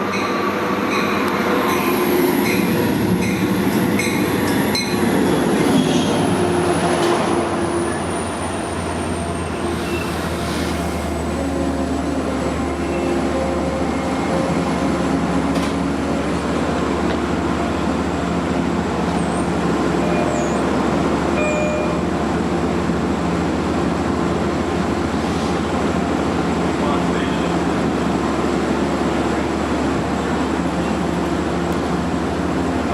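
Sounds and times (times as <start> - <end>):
diesel train engine drone: 0.0 - 32.9.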